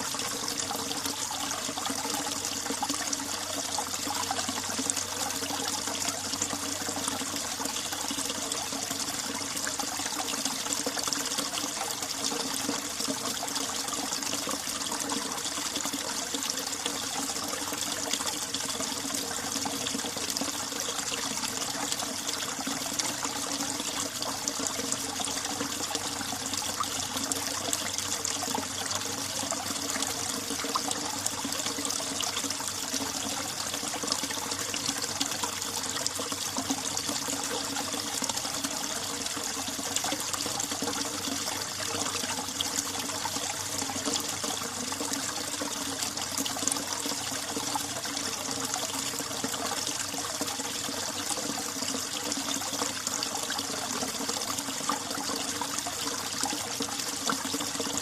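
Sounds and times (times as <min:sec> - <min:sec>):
mountain stream trickling: 0:00.0 - 0:58.0.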